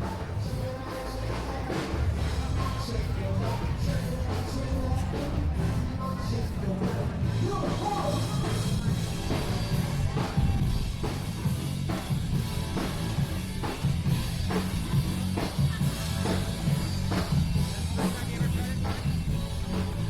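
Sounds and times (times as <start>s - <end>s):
rock music with drums and bass: 0.0s - 20.0s.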